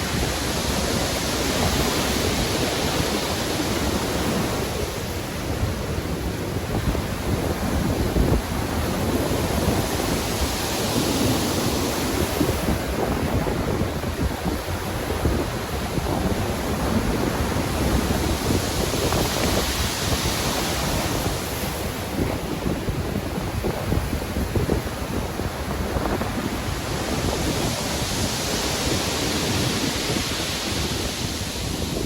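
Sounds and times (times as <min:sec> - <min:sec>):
stormy sea waves breaking: 0:00.0 - 0:32.0.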